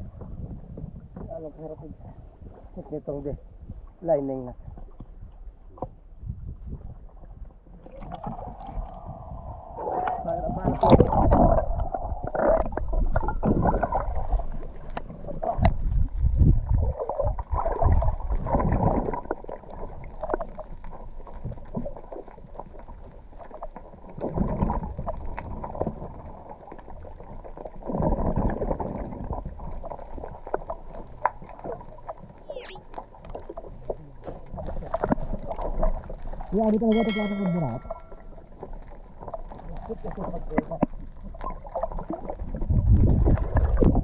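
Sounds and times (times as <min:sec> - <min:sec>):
underwater water rushing and gurgling: 0:00.0 - 0:04.0, 0:04.6 - 0:44.0.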